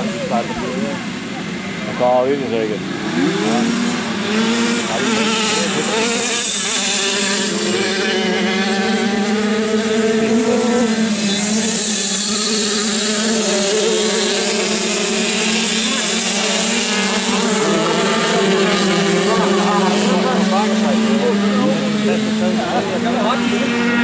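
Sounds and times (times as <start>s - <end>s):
racing motorcycles at high revs: 0.0s - 24.0s.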